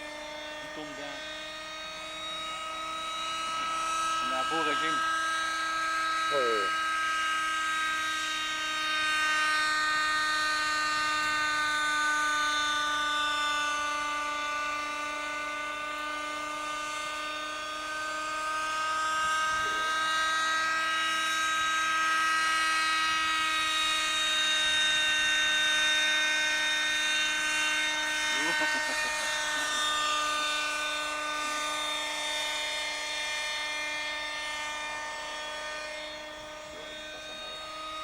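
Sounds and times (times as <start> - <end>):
model helicopter engine whine: 0.0 - 38.0.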